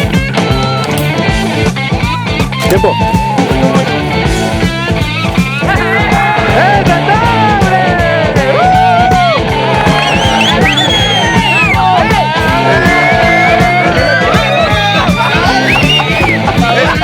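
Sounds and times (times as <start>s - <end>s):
rock music: 0.0s - 17.0s
steady drum beat: 0.0s - 17.0s.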